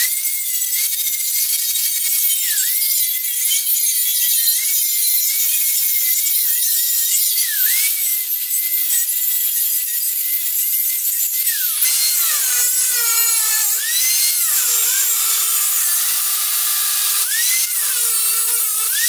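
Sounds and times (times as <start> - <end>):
angle grinder grinding steel: 0.0 - 19.0.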